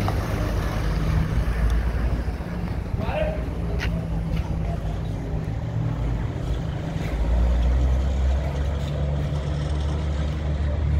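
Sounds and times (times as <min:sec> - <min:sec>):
vehicle engine rumbling: 0:00.0 - 0:10.9.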